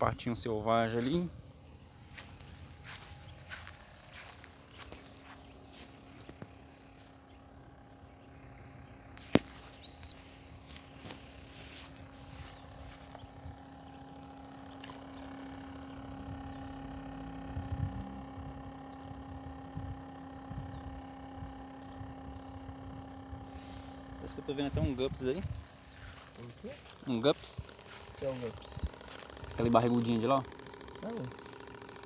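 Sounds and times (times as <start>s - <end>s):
aquarium air pump humming: 0.0s - 32.0s
insects chirring: 0.0s - 32.0s.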